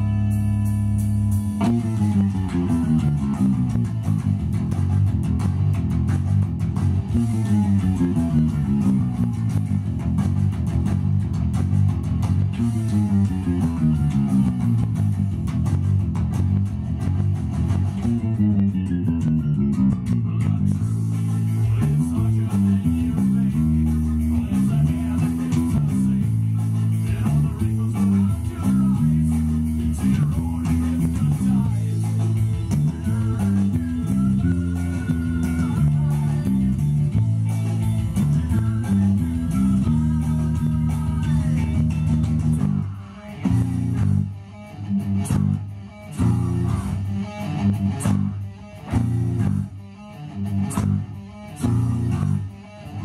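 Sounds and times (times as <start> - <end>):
electric bass guitar riffs: 0.0 - 53.0.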